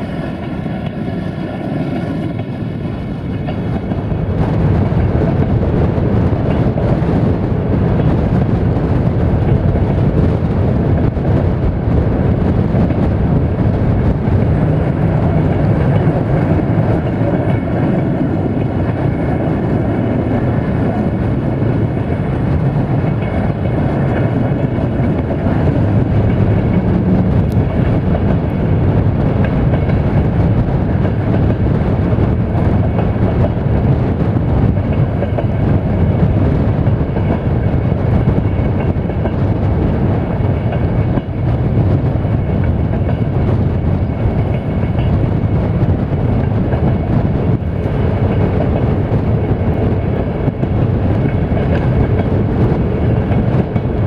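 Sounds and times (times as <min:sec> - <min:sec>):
rushing air: 0:00.0 - 0:54.0
train wheels rumbling on rails: 0:00.0 - 0:54.0.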